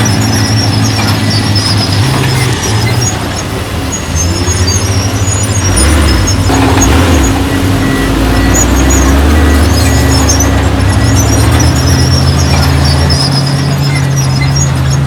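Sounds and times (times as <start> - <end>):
diesel machinery engine drone: 0.0 - 15.0
short high squeaks: 0.0 - 15.0.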